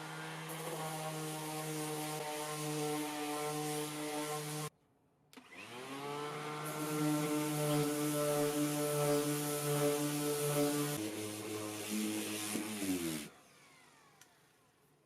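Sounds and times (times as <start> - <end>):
electric sander on wood: 0.0 - 4.7, 5.4 - 14.2.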